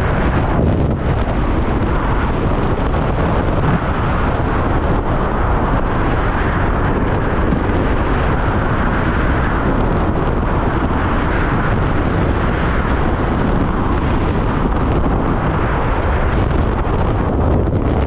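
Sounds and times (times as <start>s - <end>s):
rush of air on microphone: 0.0s - 18.0s.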